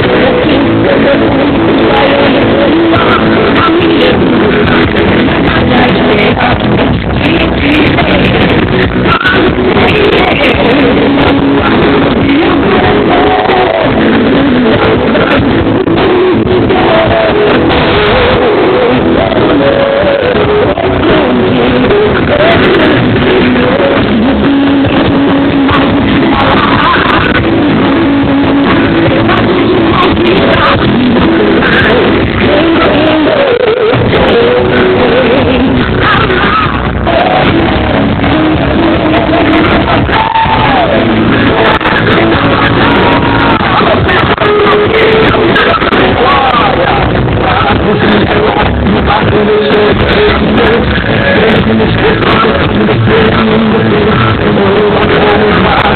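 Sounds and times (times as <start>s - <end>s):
loud music with singing: 0.0s - 55.9s.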